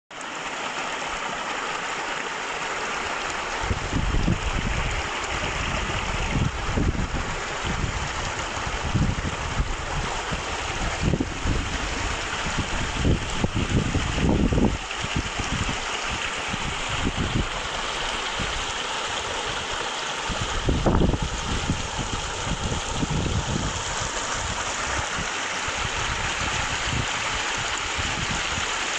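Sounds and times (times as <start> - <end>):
rushing flowing water: 0.1 - 28.9.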